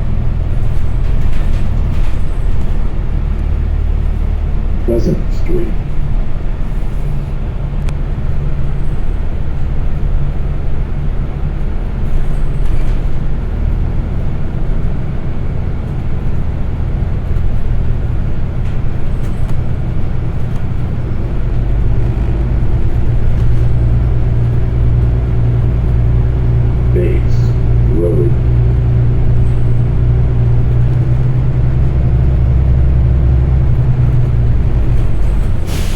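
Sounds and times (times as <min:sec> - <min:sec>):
bus engine drone: 0:00.0 - 0:35.9
road noise: 0:00.0 - 0:35.9.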